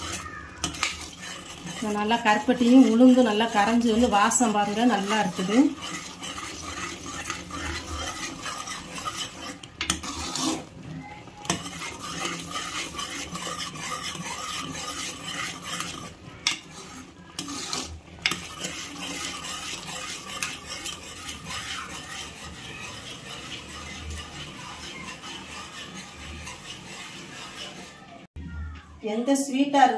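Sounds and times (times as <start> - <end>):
metal ladle scraping pot: 0.0 - 28.3.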